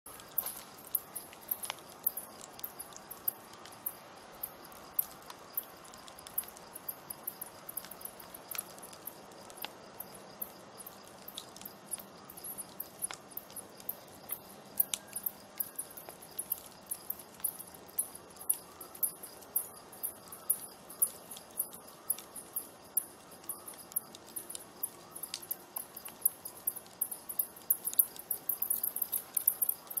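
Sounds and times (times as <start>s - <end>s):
campfire crackling and popping: 0.1s - 30.0s
crickets chirping: 0.1s - 30.0s.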